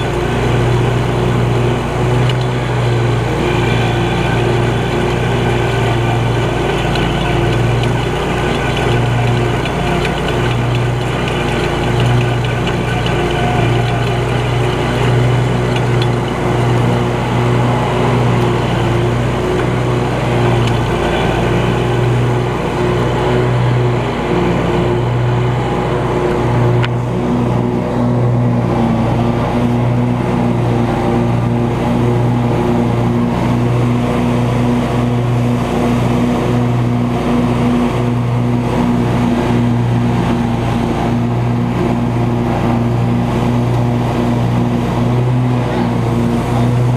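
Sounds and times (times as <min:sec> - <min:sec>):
mower engine running: 0:00.0 - 0:46.9.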